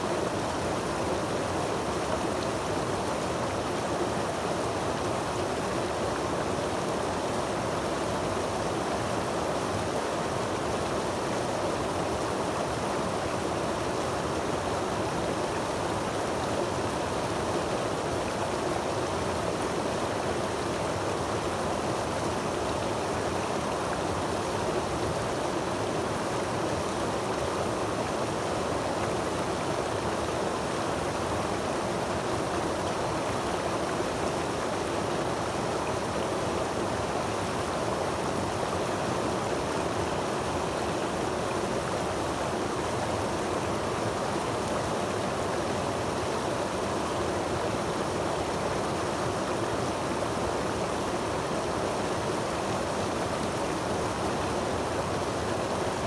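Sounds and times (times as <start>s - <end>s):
creek cascading over rocks: 0.0s - 56.0s.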